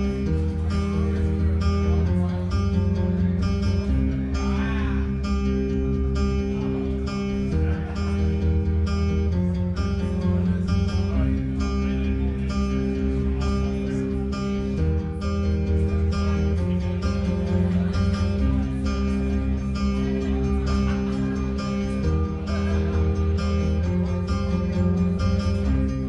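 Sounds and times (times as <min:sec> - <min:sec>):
looped guitar playing: 0:00.0 - 0:26.0.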